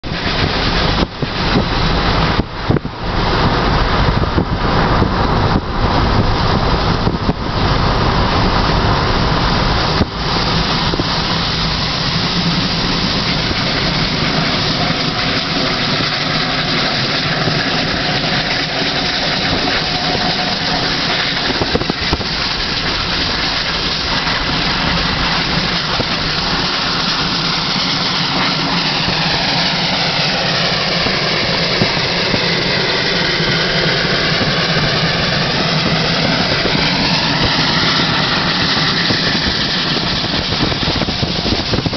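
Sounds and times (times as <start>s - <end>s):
car engine and tyre noise: 0.0s - 41.9s
wind on microphone: 0.0s - 41.9s.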